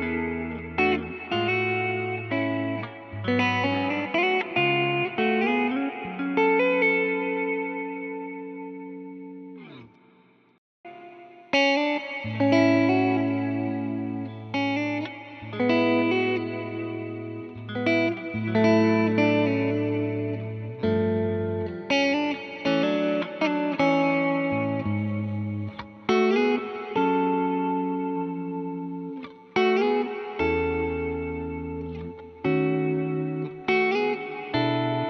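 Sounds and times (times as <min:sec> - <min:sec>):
electric guitar chords ringing: 0:00.0 - 0:10.2, 0:10.9 - 0:35.0.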